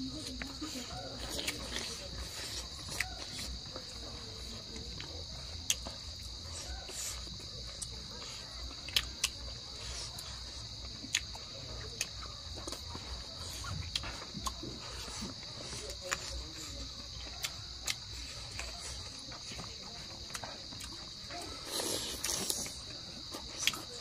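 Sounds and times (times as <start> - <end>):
night insects chorus: 0.0 - 24.0
chewing clicks: 0.2 - 24.0.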